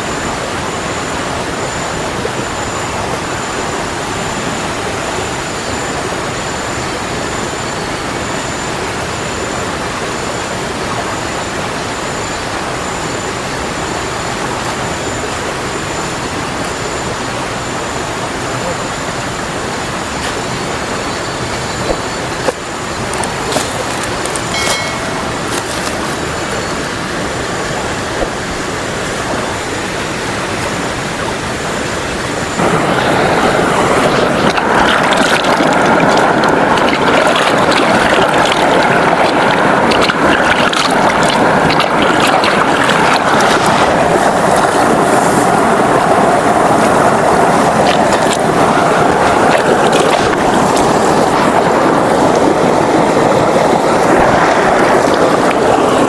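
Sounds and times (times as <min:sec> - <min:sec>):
waterfall rushing water: 0:00.0 - 0:56.0.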